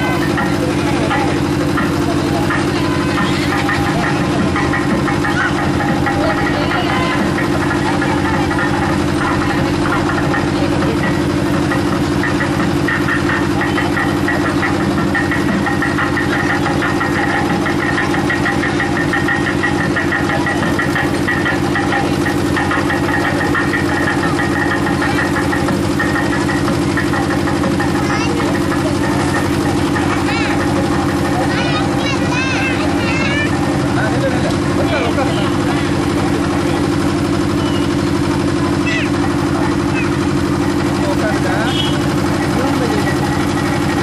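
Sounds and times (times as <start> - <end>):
engine idling: 0.0 - 44.0.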